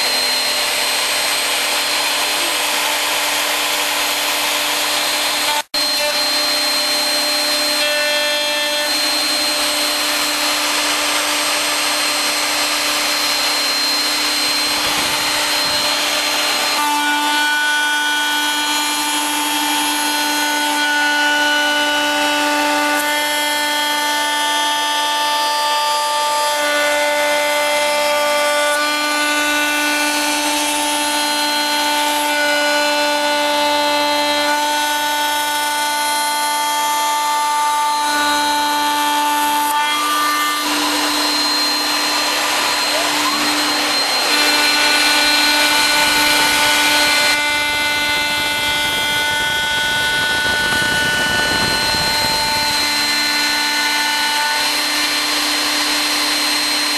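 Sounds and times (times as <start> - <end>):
router motor whine: 0.0 - 56.9.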